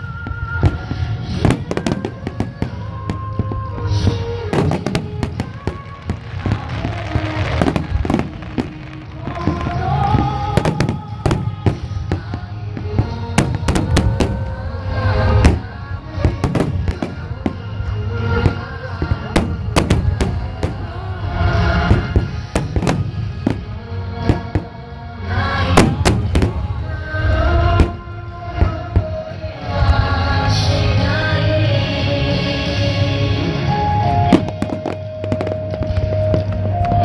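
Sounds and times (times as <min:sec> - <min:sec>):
fireworks bangs and crackles: 0:00.0 - 0:32.0, 0:32.7 - 0:37.0
deep rumble: 0:00.0 - 0:37.0
music playing: 0:00.0 - 0:37.0.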